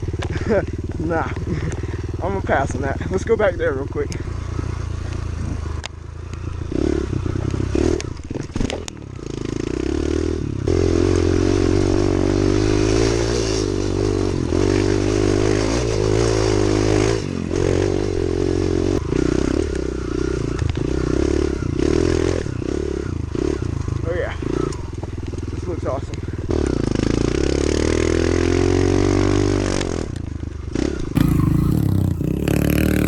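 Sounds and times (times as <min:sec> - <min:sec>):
motorbike engine revving: 0:00.0 - 0:30.1, 0:30.7 - 0:33.0.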